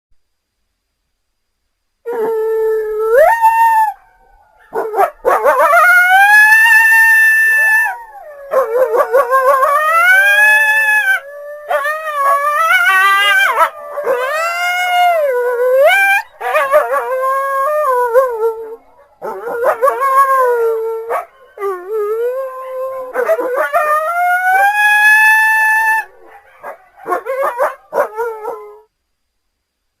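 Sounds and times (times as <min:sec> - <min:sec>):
coyote howling and yipping: 0:02.1 - 0:28.8.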